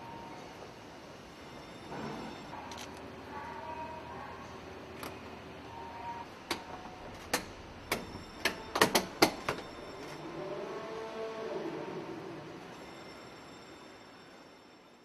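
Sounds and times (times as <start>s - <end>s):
steady factory hum: 0.0s - 15.0s.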